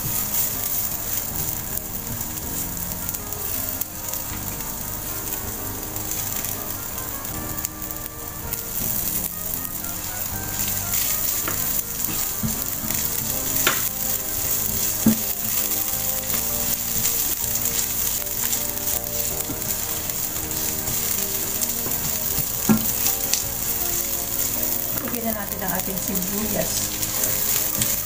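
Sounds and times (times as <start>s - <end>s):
garlic sizzling in hot oil: 0.0s - 28.0s.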